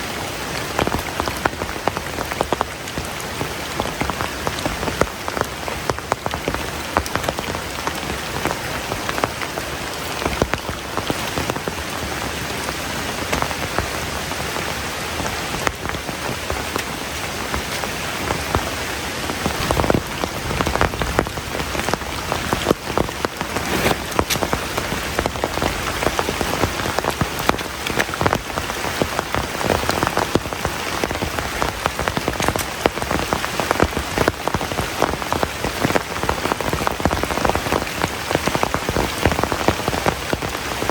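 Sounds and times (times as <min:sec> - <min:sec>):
heavy rain falling: 0:00.0 - 0:40.9
sharp raindrops striking close: 0:00.0 - 0:40.9.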